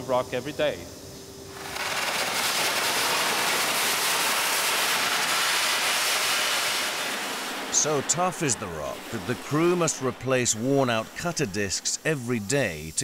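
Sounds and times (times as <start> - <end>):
welding hiss: 0.0 - 13.0.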